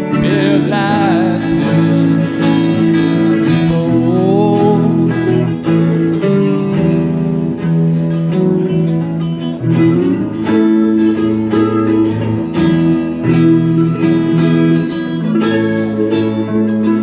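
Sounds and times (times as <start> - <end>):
blues band instrumental: 0.0 - 17.0
strummed guitar chords: 0.0 - 17.0.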